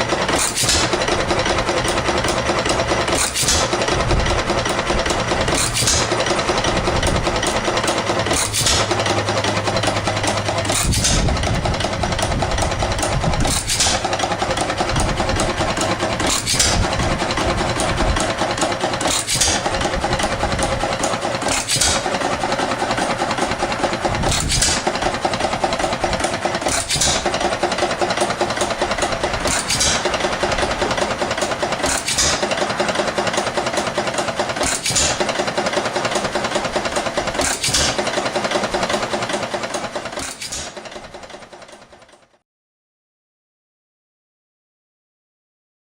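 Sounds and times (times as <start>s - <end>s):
hit-and-miss engine running: 0.0s - 42.4s.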